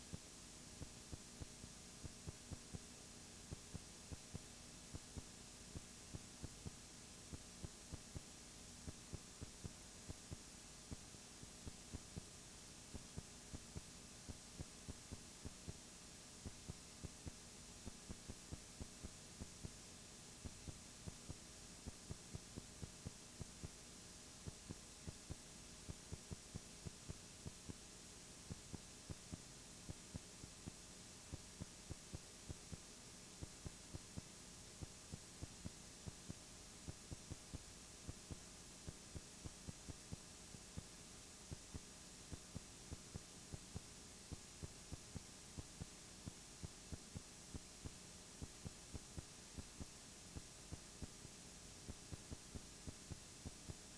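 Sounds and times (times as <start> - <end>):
faint irregular clicks: 0.0 - 53.9
low electrical hum and hiss: 0.0 - 53.9.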